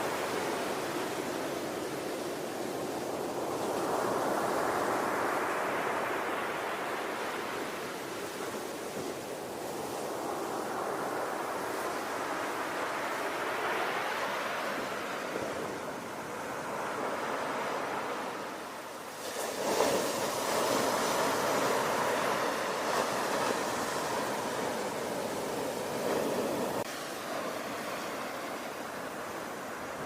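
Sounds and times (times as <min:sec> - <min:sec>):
ocean waves washing in: 0:00.0 - 0:30.0.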